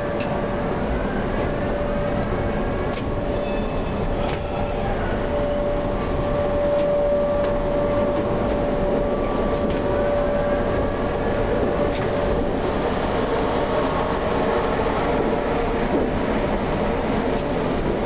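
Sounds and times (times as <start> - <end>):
tram running noise: 0.0 - 18.0
tram whine: 0.0 - 18.0.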